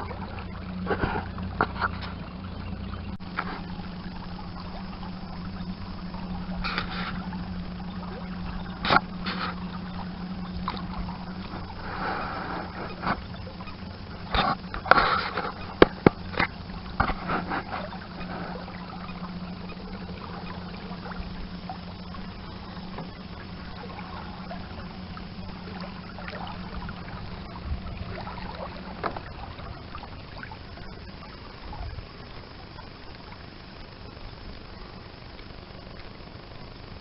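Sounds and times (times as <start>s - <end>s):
knocks and clatter against boat: 0.0s - 30.1s
steady low hum: 0.0s - 37.0s
water lapping: 0.0s - 37.0s.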